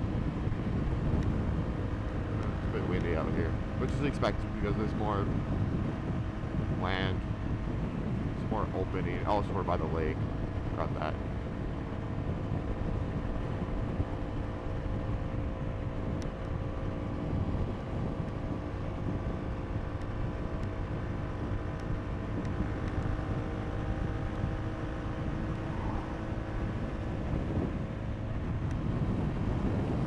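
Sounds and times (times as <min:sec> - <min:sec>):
motorcycle engine cruising: 0:00.0 - 0:30.0
wind rumbling on microphone: 0:00.0 - 0:30.0.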